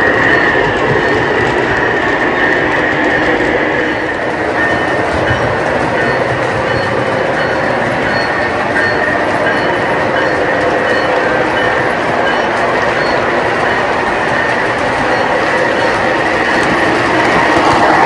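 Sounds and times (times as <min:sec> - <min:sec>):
model train wheels rumbling on rails: 0:00.0 - 0:18.0.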